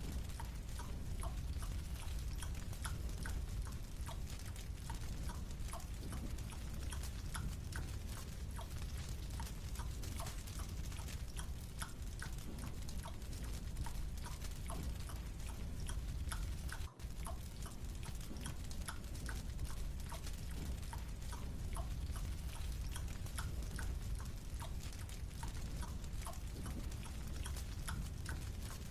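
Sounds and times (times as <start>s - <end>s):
steady low hum: 0.0s - 28.9s
mouth chewing clicks: 0.2s - 28.8s.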